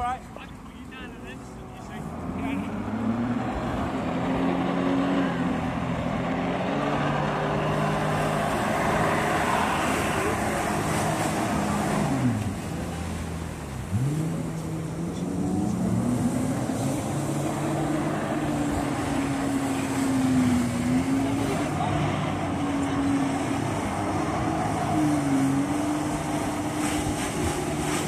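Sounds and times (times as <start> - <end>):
spraying water rush: 0.0 - 28.0
jet ski engine running hard: 0.4 - 28.0.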